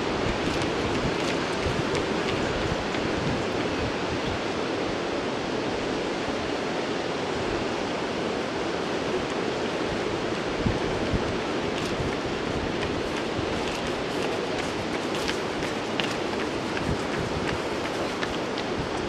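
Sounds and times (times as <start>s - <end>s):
sea surf: 0.0s - 19.0s
wind: 0.0s - 19.0s.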